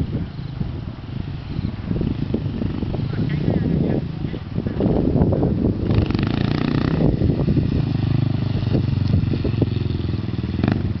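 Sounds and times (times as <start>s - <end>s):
dirt bike engine: 0.0s - 11.0s.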